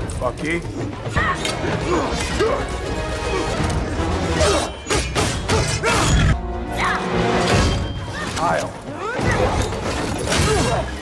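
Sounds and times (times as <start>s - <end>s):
action film music score: 0.0s - 11.0s.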